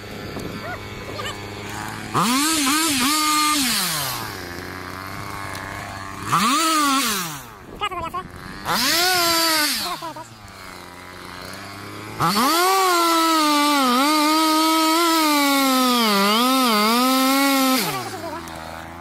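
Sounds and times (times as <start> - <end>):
chainsaw cutting into tree trunk: 0.0 - 19.0.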